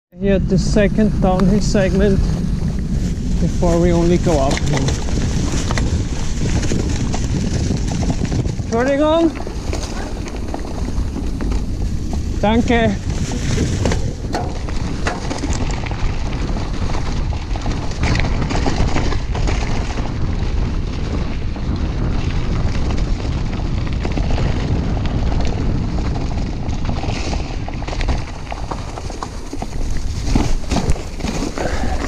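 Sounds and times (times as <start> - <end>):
wind buffeting microphone: 0.1 - 32.0
tyre rumble: 0.2 - 32.0
bike knocks and rattles: 1.6 - 32.0.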